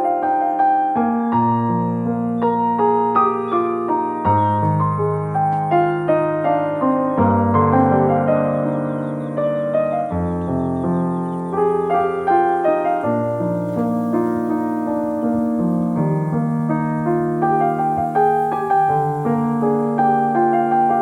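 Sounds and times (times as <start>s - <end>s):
slow gentle piano piece: 0.0s - 21.0s.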